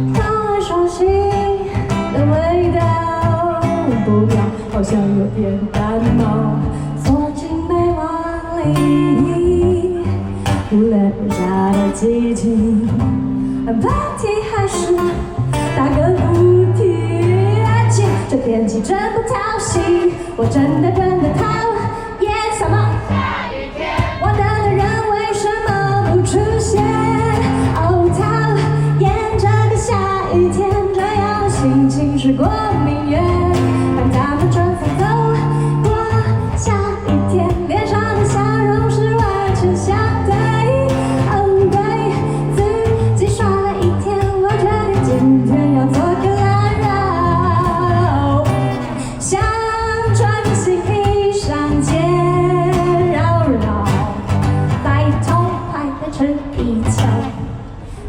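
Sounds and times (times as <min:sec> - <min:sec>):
woman singing a pop ballad: 0:00.0 - 0:57.6.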